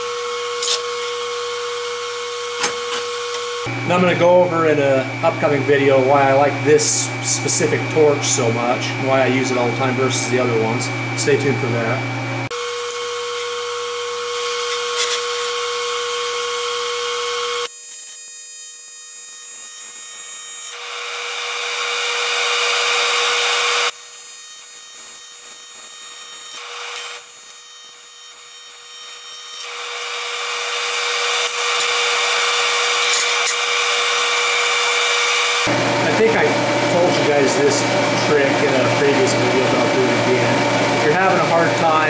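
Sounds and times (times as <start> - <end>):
tig welding arc buzzing: 0.0 - 42.0.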